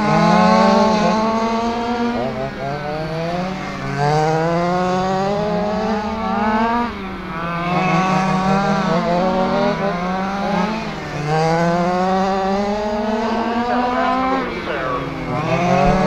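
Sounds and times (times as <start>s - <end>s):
rc car motors racing: 0.0s - 16.0s.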